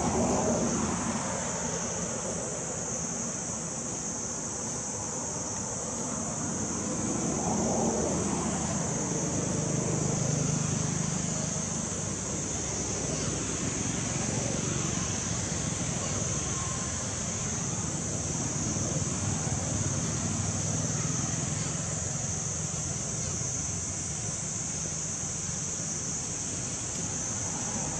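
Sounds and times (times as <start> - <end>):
road traffic rumbling: 0.0 - 27.9
steady high-pitched hiss: 0.0 - 27.9.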